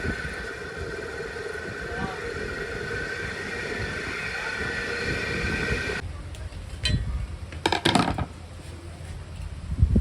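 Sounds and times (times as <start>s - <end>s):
fan whirring and humming: 0.0s - 10.0s.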